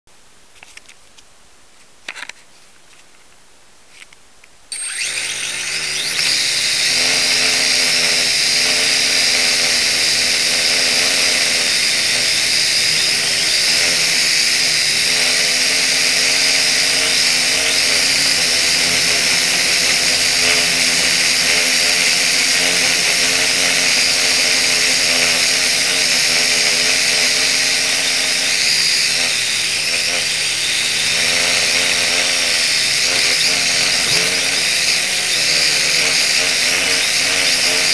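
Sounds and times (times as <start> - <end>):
model aircraft motor and propeller: 4.7 - 37.9.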